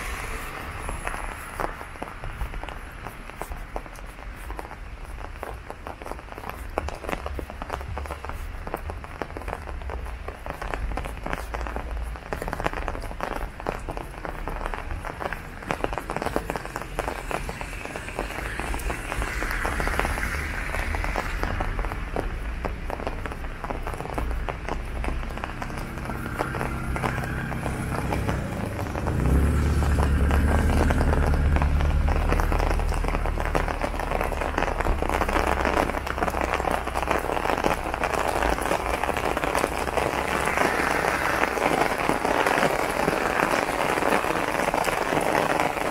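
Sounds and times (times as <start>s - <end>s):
rain on an umbrella: 0.0s - 45.9s.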